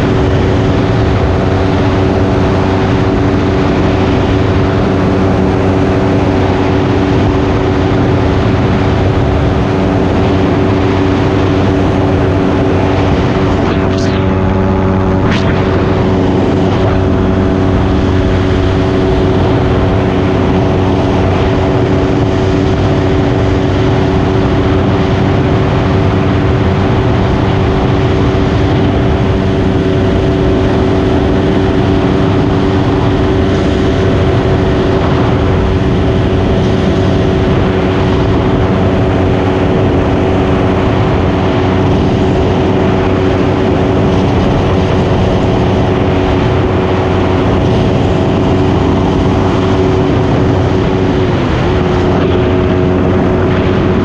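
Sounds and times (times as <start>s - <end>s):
motorcycle engine cruising: 0.0s - 54.0s
wind and road hiss: 0.0s - 54.0s.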